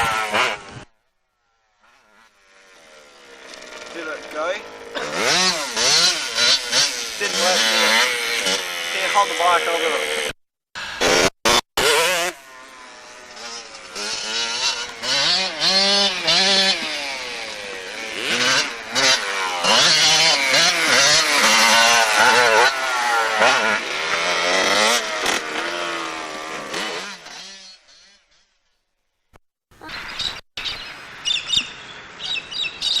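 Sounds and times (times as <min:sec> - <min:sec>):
small motorcycle engine revving: 0:00.0 - 0:28.6.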